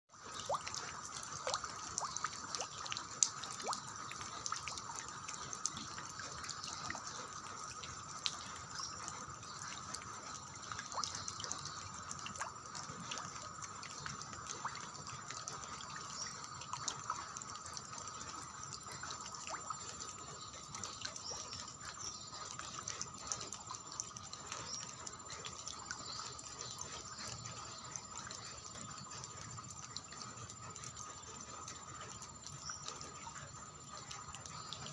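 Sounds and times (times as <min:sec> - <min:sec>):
water dripping and splashing: 0:00.1 - 0:34.9.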